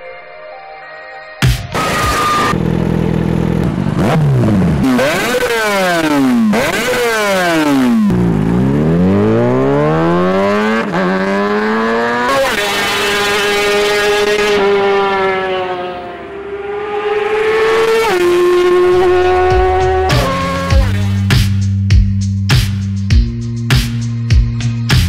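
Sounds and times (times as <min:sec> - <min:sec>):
motorcycle engine revving: 0:01.8 - 0:21.9.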